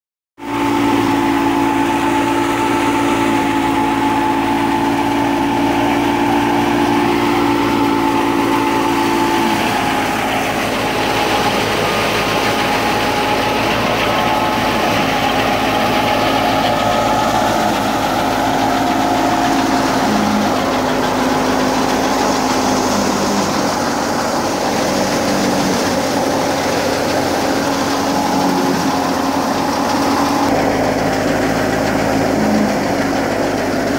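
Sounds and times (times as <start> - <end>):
thresher machine droning: 0.4 - 33.9.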